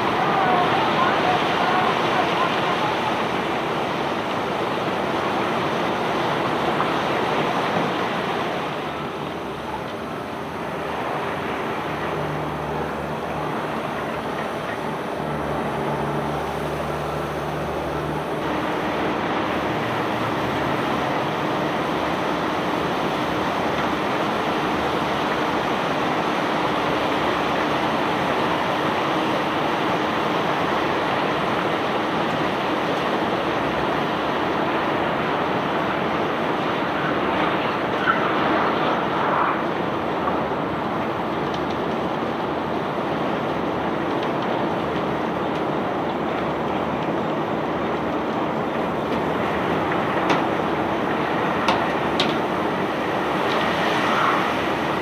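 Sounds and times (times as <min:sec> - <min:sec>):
low machinery hum: 0:00.0 - 0:55.0.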